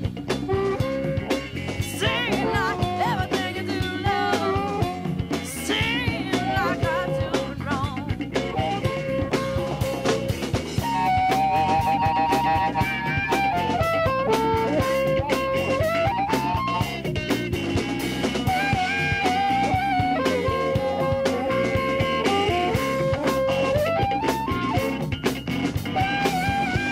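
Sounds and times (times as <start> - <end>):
bending electric guitar lead: 0.0 - 26.9
drum kit: 0.0 - 26.9.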